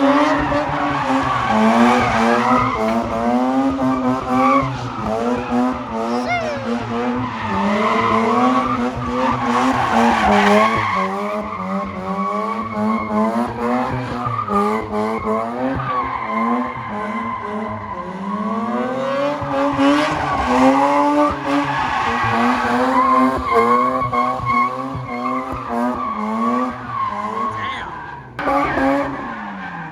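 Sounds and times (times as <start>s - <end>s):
car engine revving: 0.0s - 29.9s.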